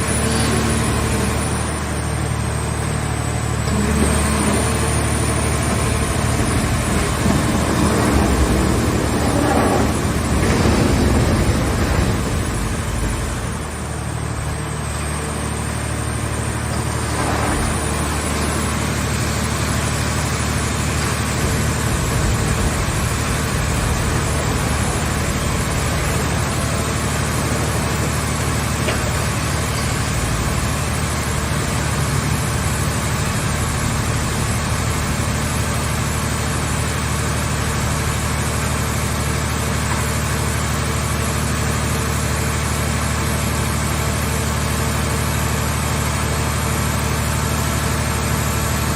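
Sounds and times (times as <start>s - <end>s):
hydraulic power unit humming: 0.0s - 48.9s
hydraulic pump drone: 0.0s - 48.9s.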